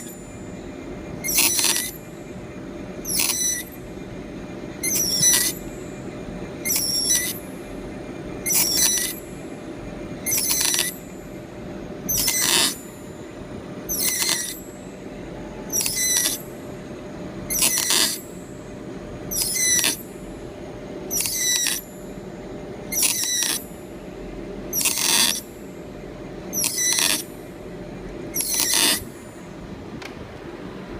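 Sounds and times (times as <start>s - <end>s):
milling cutter squealing: 0.0s - 24.0s, 24.6s - 29.5s
steady machine hum: 0.0s - 30.9s.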